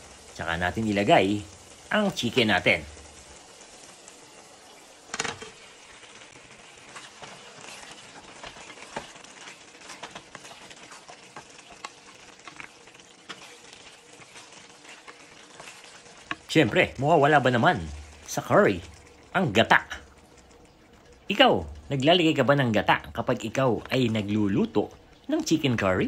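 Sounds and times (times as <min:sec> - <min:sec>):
sauce sizzling in pan: 0:00.0 - 0:26.0
wooden spoon stirring: 0:05.1 - 0:26.0.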